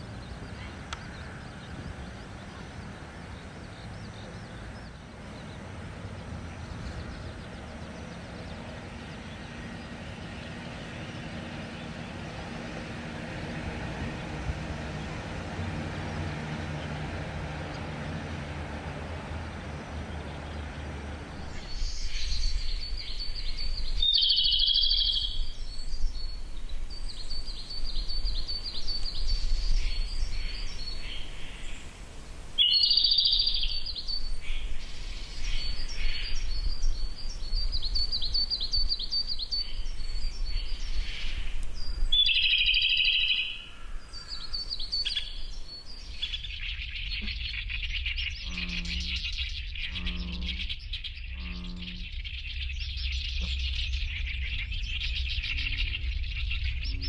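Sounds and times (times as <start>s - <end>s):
low rumbling ambience: 0.0s - 57.0s
robin singing: 0.0s - 57.0s.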